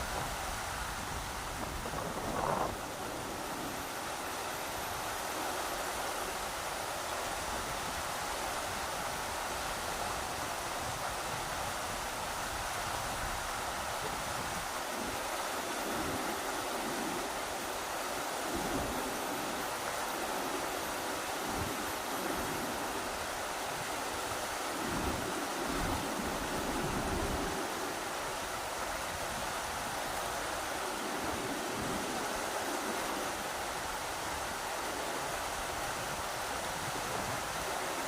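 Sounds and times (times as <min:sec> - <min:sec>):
rushing river water: 0:00.0 - 0:38.0
wind gusting on microphone: 0:00.0 - 0:38.0.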